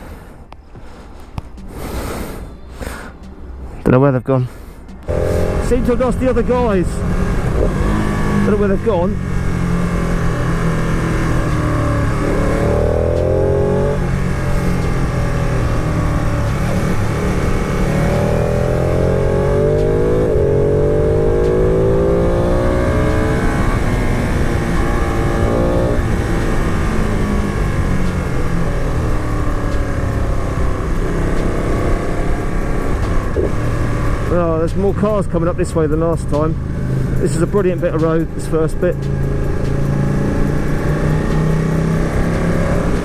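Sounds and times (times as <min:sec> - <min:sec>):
wind and road noise: 0:00.0 - 0:43.0
motorcycle engine revving: 0:04.9 - 0:43.0.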